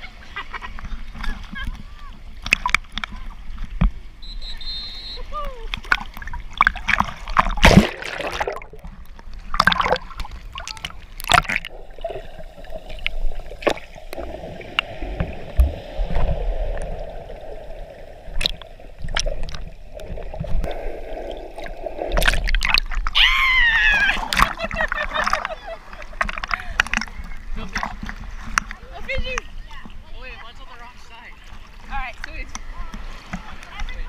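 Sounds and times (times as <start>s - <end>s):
water splashing around waders: 0.0s - 34.0s.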